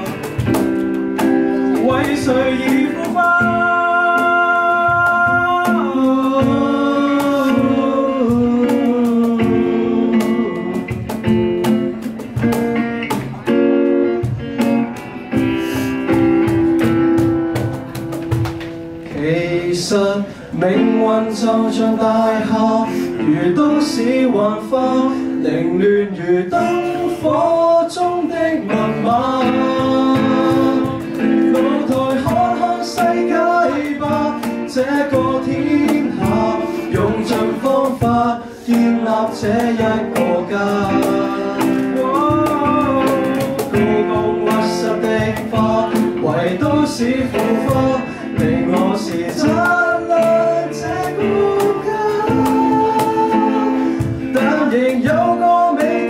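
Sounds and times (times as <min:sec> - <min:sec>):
strummed acoustic guitar: 0:00.0 - 0:56.0
men singing pop ballad: 0:01.6 - 0:11.1, 0:19.1 - 0:56.0.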